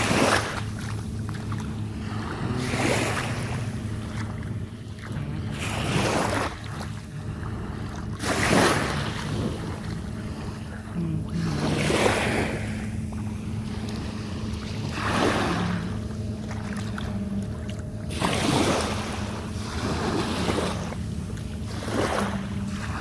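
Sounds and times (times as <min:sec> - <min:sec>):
small waves washing onto shore: 0:00.0 - 0:23.0
steady low hum: 0:00.0 - 0:23.0.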